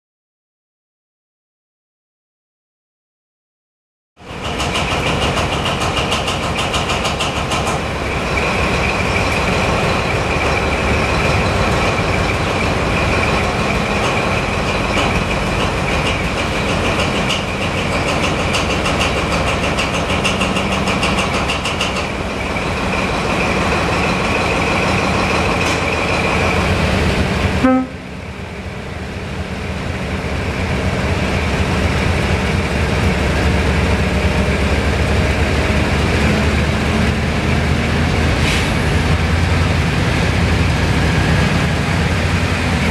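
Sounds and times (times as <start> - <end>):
diesel engine high whine and rumble: 4.2 - 42.9
diesel locomotive engine running: 4.2 - 42.9.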